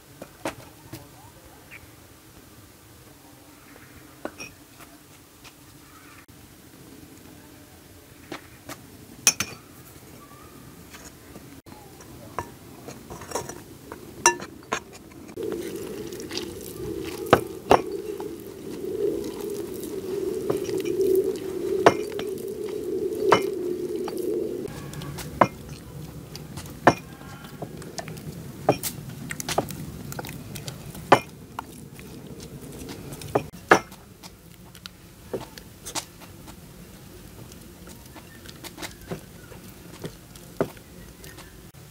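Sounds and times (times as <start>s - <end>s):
steady background noise: 0.0s - 41.9s.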